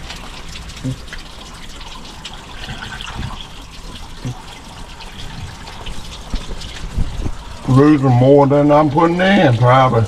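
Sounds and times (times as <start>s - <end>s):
water pouring and splashing: 0.0s - 10.0s.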